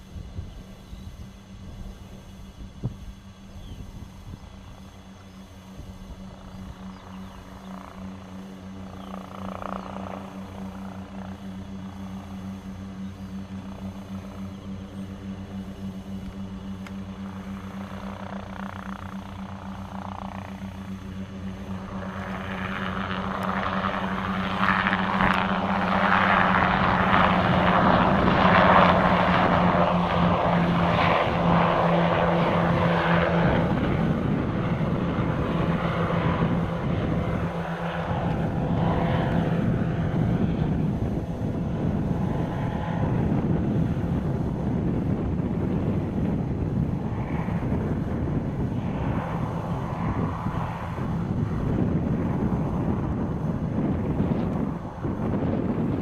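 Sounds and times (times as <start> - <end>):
helicopters droning: 0.0 - 56.0.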